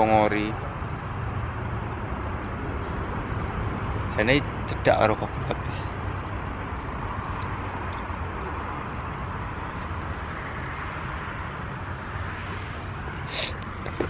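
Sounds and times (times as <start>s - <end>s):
motorbike engine hum: 0.0s - 14.0s.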